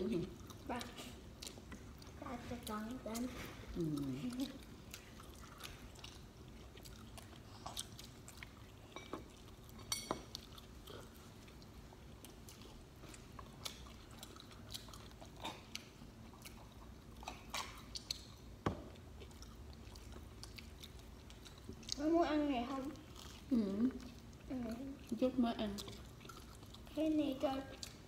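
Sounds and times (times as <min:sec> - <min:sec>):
wet chewing mouth sounds: 0:00.1 - 0:22.1, 0:22.7 - 0:28.0.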